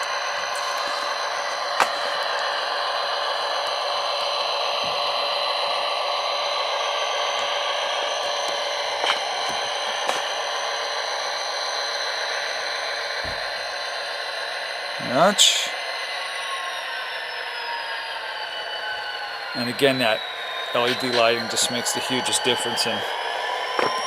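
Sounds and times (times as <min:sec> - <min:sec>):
model locomotive diesel engine sound: 0:00.0 - 0:24.0.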